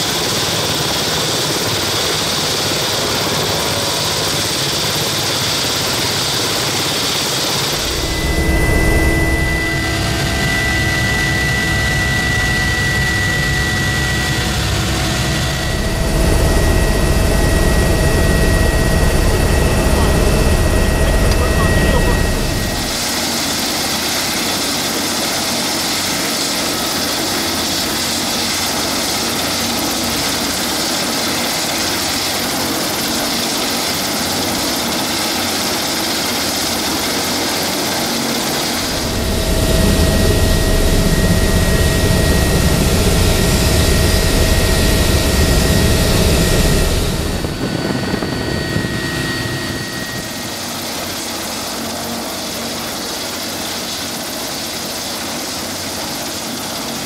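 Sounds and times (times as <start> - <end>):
helicopter rotor noise: 0.0 - 57.0
helicopter turbine whine: 0.0 - 57.0.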